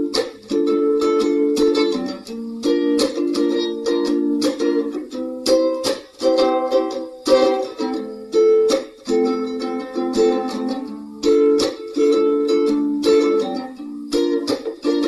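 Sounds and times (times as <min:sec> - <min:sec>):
string instrument strumming chords: 0:00.0 - 0:15.0.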